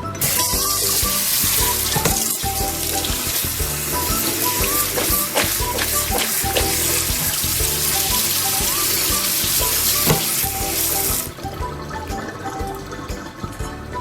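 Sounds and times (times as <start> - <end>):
light background music: 0.0 - 14.0
water running from a tap: 0.0 - 14.0.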